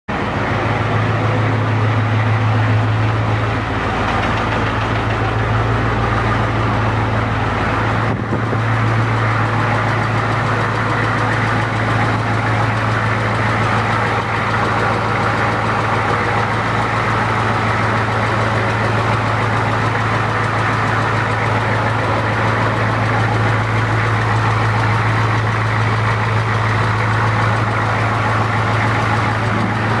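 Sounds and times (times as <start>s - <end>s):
diesel engine idling with a knock: 0.1s - 30.0s.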